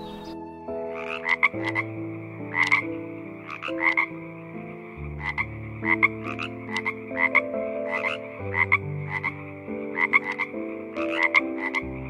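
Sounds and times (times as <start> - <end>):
frogs croaking: 0.0 - 12.0
soft background music: 0.0 - 12.0.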